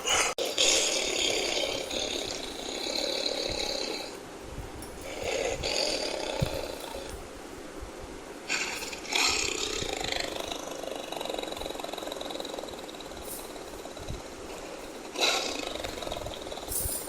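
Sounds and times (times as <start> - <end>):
tiger growling: 0.0 - 4.2, 4.9 - 7.2, 8.5 - 17.0
tiger roaring: 0.0 - 4.2, 5.0 - 7.2, 8.5 - 17.0.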